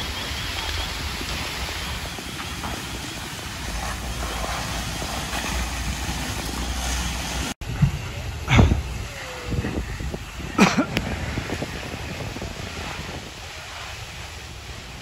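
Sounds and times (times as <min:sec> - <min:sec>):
fire rumble: 0:00.0 - 0:15.0
hose water spraying: 0:00.0 - 0:15.0.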